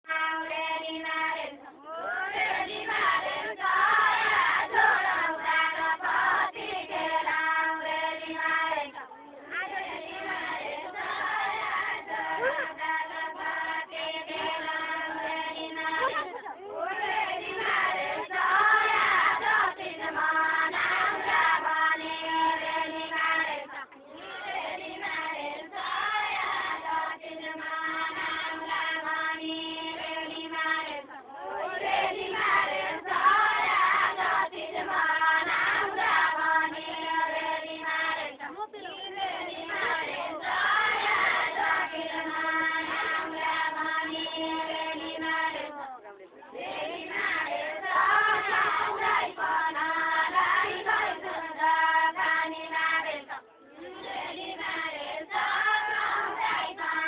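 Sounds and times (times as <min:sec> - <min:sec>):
women singing unaccompanied: 0:00.0 - 0:57.0.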